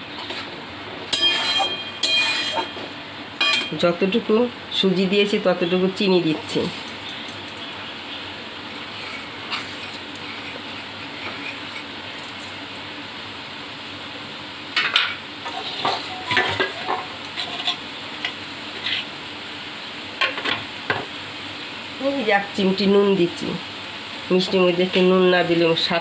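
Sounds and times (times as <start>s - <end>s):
food sizzling: 0.0s - 26.0s.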